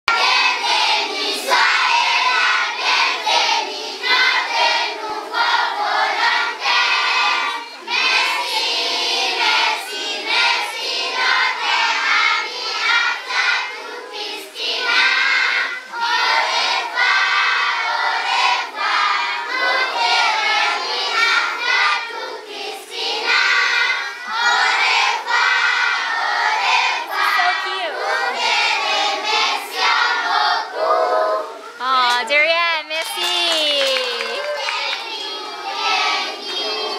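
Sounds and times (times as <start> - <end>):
children singing: 0.1 - 31.8, 34.0 - 36.9.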